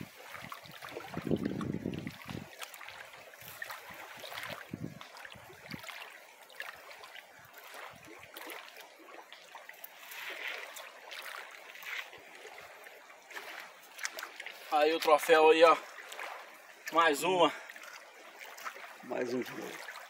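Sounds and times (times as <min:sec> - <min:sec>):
river water trickling: 0:00.0 - 0:20.0.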